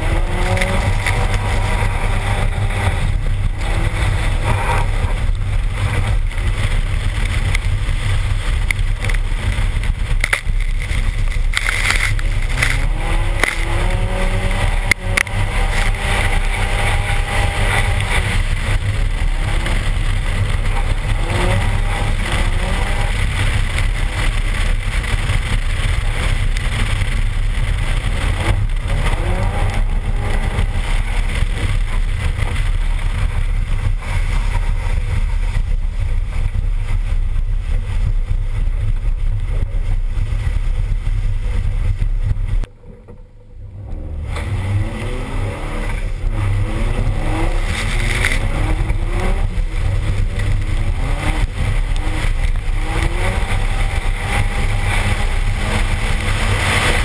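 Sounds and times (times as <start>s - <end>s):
car engine revving: 0.0s - 57.0s
wind buffeting microphone: 0.0s - 57.0s.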